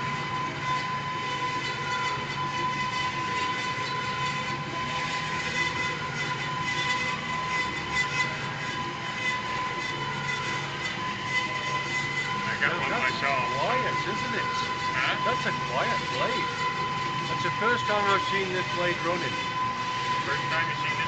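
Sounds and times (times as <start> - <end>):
bandsaw cutting steel: 0.0 - 21.0.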